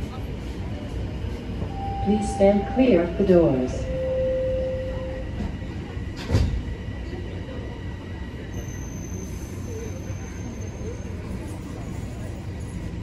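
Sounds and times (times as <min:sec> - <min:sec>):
subway car rumble: 0:00.0 - 0:13.0.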